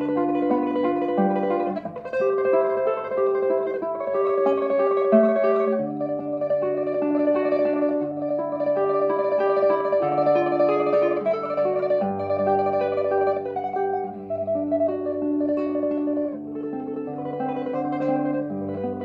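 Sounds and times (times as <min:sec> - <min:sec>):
classical guitar tremolo melody: 0:00.0 - 0:19.0.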